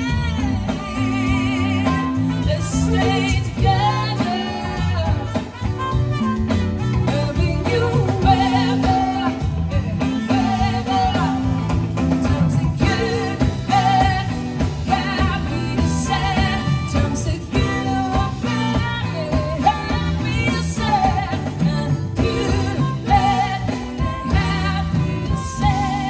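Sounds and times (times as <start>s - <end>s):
live band playing: 0.0s - 26.0s
person singing with vibrato: 0.0s - 26.0s.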